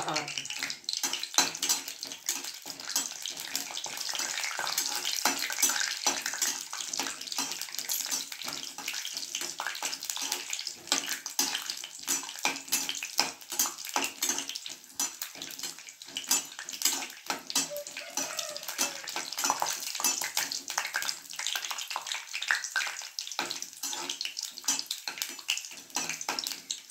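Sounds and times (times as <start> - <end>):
hot oil sizzling and crackling: 0.0 - 26.9
spatula stirring in a pan: 0.0 - 26.9.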